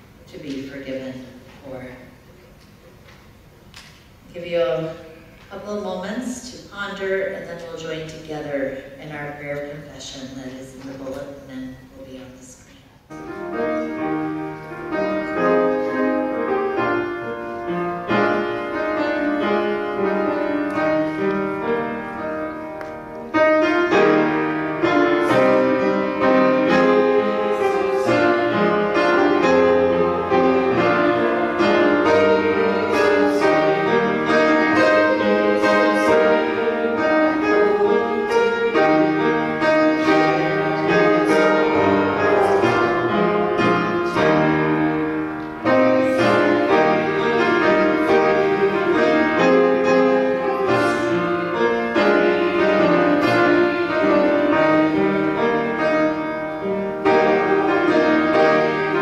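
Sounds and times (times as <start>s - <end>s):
piano playing a slow hymn: 7.5s - 59.0s.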